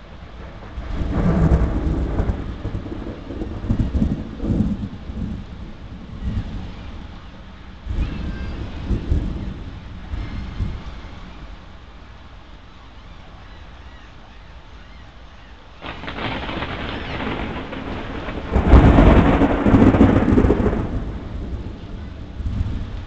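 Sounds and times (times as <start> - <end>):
thunder rumbling: 0.0 - 12.5, 15.8 - 23.0.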